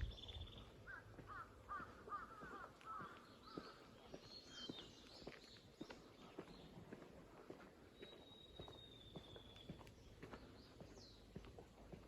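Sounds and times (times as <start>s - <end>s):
faint footsteps on a path: 0.0s - 12.0s.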